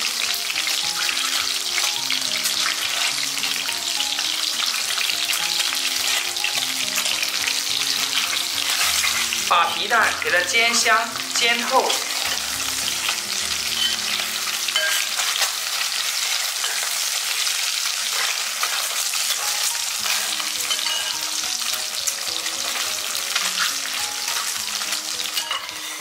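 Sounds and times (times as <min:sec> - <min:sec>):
eggs sizzling in oil: 0:00.0 - 0:26.0.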